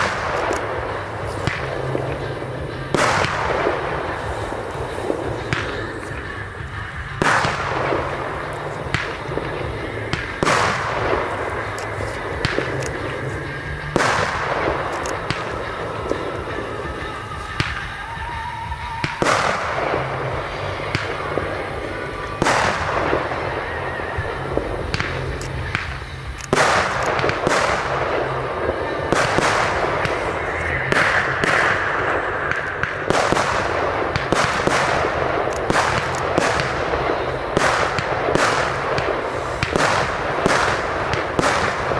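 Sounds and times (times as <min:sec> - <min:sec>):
fireworks crackling: 0:00.0 - 0:41.9
fireworks shell bursting: 0:00.0 - 0:41.9.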